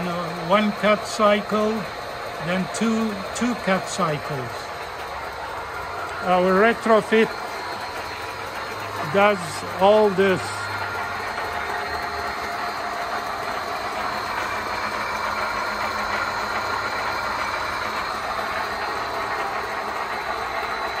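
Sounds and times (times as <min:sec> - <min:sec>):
machine humming with faint whine: 0:00.0 - 0:21.0.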